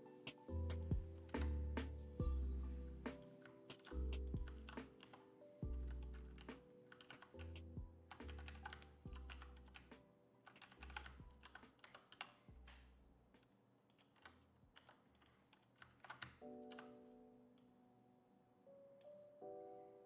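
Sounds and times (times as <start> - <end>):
soft background music: 0.0 - 13.4, 16.2 - 20.0.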